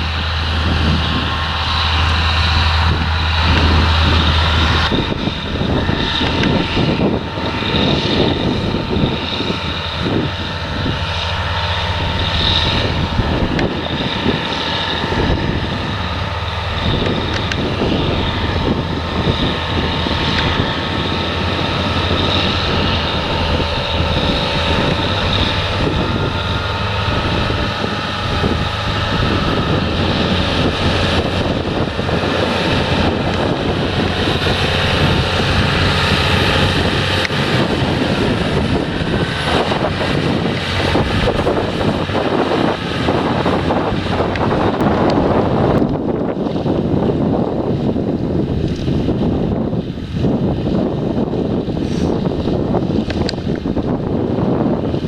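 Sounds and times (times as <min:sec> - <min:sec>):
deep low drone: 0:00.0 - 0:55.0
harvester and tractor running: 0:00.0 - 0:55.0.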